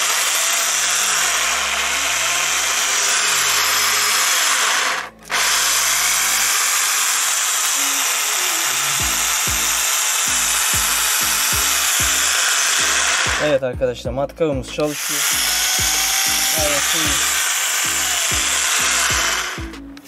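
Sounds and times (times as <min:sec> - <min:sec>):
electric drill running: 0:00.0 - 0:13.6, 0:14.8 - 0:19.9.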